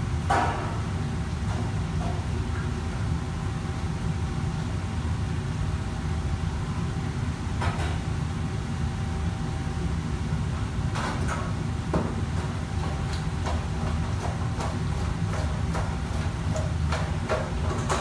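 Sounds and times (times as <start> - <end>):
kitchen extraction hood roar: 0.0 - 18.0.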